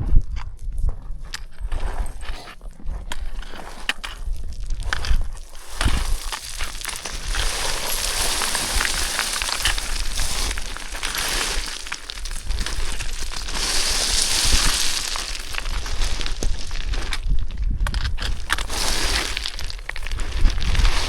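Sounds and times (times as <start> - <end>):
footsteps crunching on loose stones: 0.0 - 21.0.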